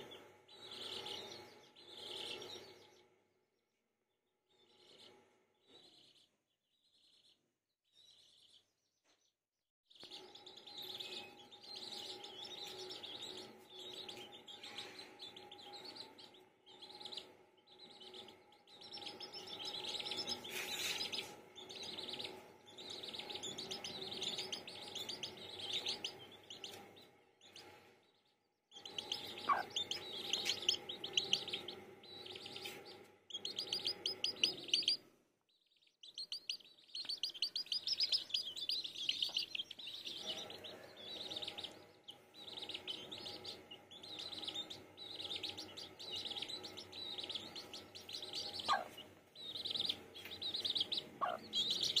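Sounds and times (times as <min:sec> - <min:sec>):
chicks peeping: 0:00.0 - 0:03.1, 0:04.6 - 0:07.4, 0:08.0 - 0:09.3, 0:09.9 - 0:52.0.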